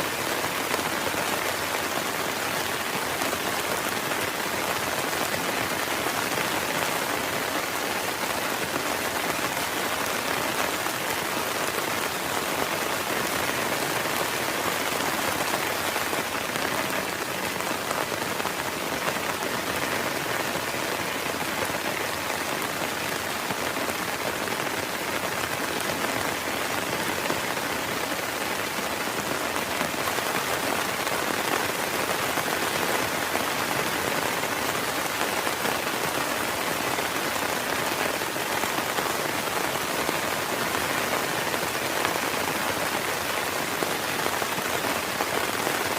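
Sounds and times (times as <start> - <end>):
heavy rain on a tent: 0.0 - 45.9.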